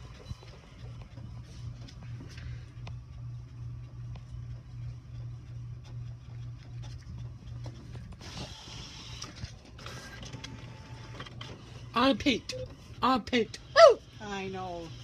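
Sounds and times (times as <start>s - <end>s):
printer whirring: 0.0s - 15.0s.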